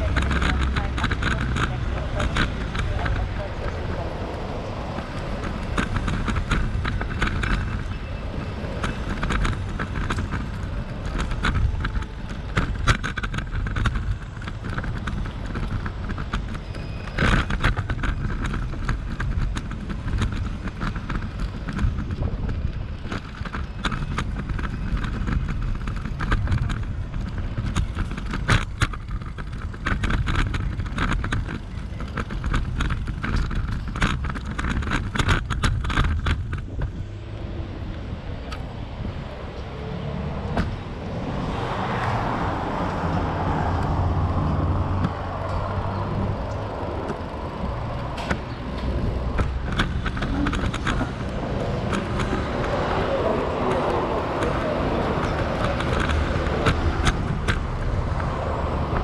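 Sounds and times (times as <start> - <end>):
bicycle rattling and clicking: 0.0 - 59.0
wind buffeting microphone: 0.0 - 59.0.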